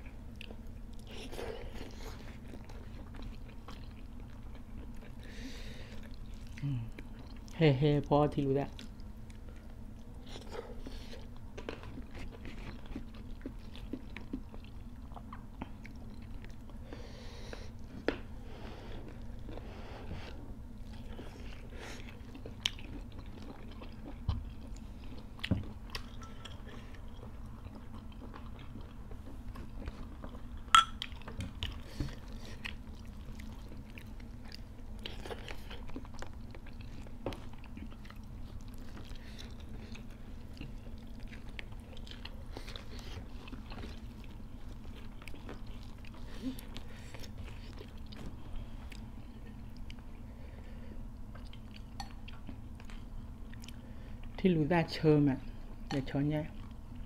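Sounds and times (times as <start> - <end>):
people chewing food: 0.0 - 54.4, 55.5 - 57.0
steady low hum: 0.0 - 57.0.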